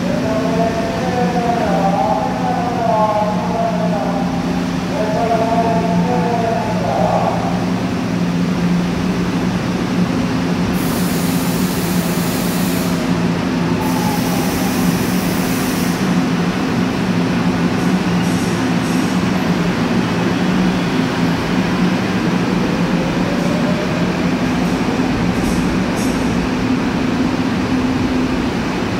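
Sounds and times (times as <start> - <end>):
subway train accelerating: 0.0 - 28.9.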